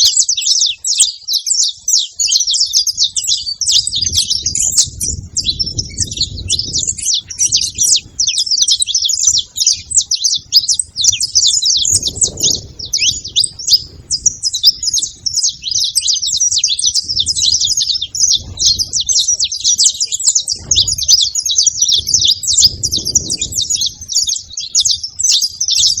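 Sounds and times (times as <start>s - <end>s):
finch singing high chirps: 0.0s - 26.0s.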